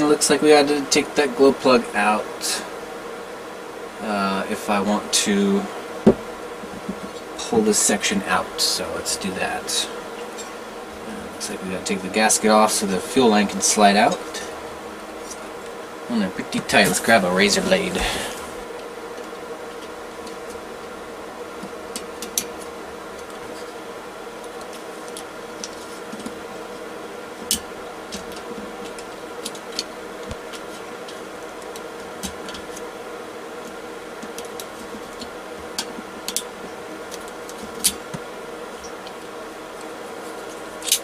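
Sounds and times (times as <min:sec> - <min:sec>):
steady electrical hum: 0:00.0 - 0:41.0.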